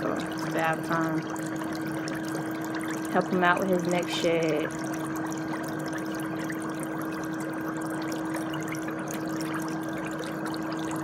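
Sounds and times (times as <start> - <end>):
bubbling churning water: 0.0 - 11.0
motor hum: 0.0 - 11.0.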